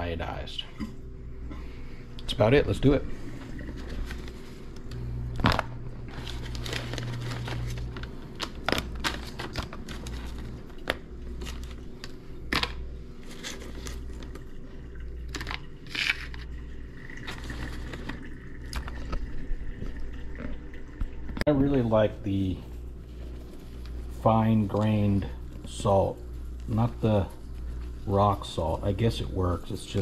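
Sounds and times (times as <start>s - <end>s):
paper crinkling: 3.2s - 19.4s, 21.7s - 30.0s.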